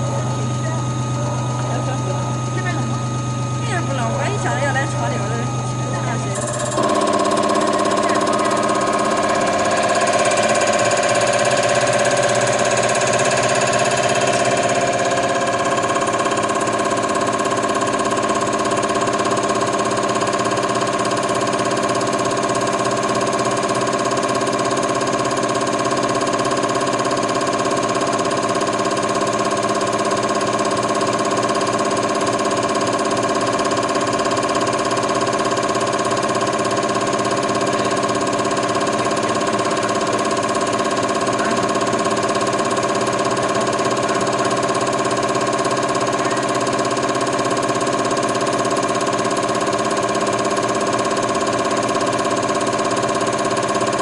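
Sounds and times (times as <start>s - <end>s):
motor and pump humming: 0.0s - 54.0s.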